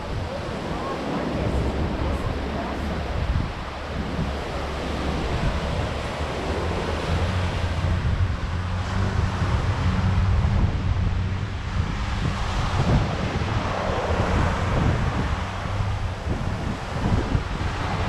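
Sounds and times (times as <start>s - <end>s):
waves washing onto beach: 0.0s - 18.0s
wind buffeting microphone: 0.0s - 18.0s.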